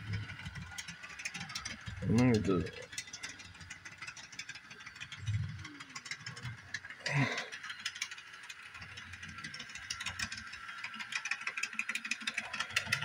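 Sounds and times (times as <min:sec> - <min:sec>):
model railcar motor clicking: 0:00.0 - 0:13.0.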